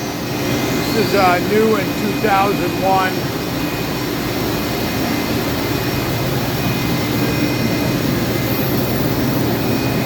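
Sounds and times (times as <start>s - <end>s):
faint high whines: 0.0s - 10.0s
machine whirring and hissing: 0.0s - 10.0s.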